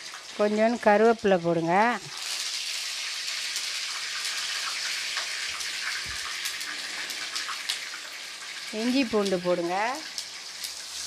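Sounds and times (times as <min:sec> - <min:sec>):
hot oil sizzling and popping: 0:00.0 - 0:11.0.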